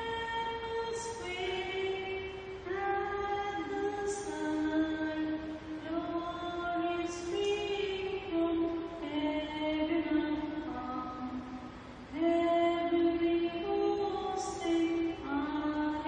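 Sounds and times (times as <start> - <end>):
woman singing slow song: 0.0 - 16.0.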